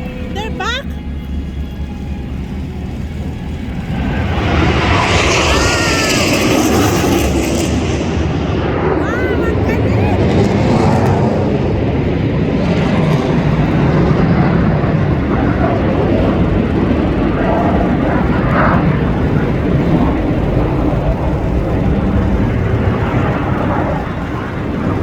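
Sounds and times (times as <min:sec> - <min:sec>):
aircraft engine overhead: 0:00.0 - 0:25.0.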